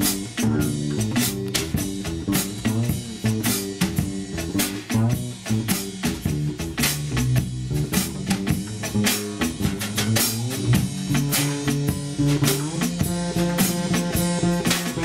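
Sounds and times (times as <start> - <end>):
drum kit beat: 0.0 - 15.0
plucked bass notes: 0.0 - 15.0.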